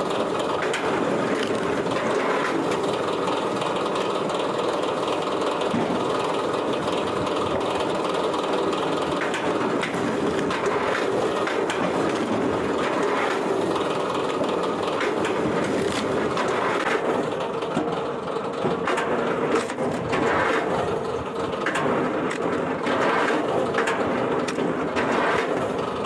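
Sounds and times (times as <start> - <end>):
wood-processing machinery running: 0.0 - 26.0.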